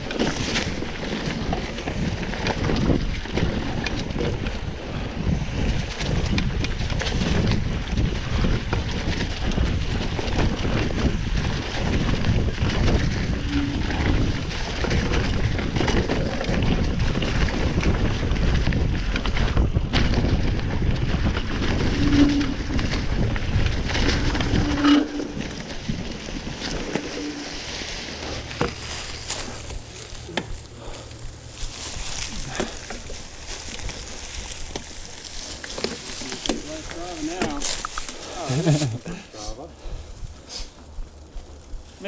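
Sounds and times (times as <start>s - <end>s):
bike rumbling on dirt trail: 0.0s - 42.0s
wind buffeting microphone: 0.0s - 42.0s.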